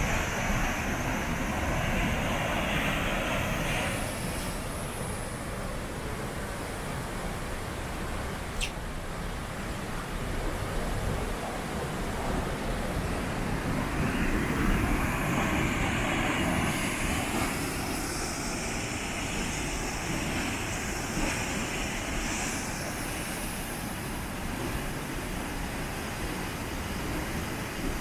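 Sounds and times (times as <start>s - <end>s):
water rushing over waterfall: 0.0s - 28.0s.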